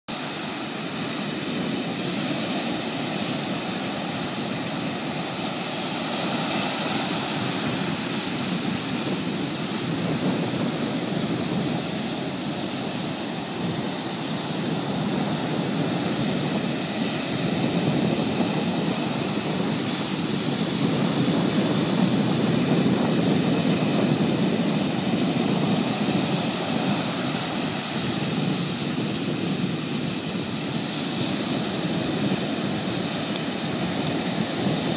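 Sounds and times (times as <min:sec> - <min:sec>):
waves breaking: 0:00.1 - 0:34.9.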